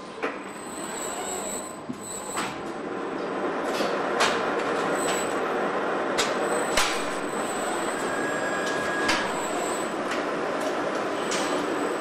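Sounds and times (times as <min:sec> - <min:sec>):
assembly line machinery din: 0:00.5 - 0:12.0.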